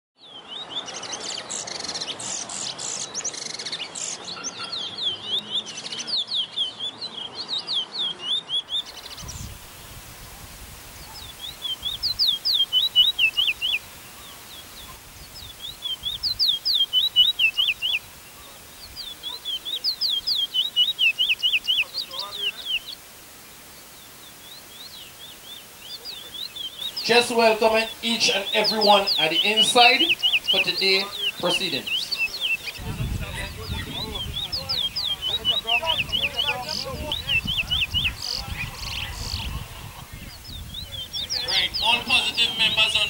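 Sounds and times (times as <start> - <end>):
bird singing whistled notes: 0.2 - 9.7, 10.9 - 43.0.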